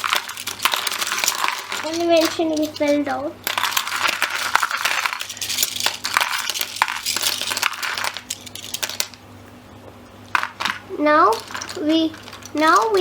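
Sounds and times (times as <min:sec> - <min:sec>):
plastic puzzle pieces clattering: 0:00.0 - 0:09.2, 0:10.3 - 0:13.0.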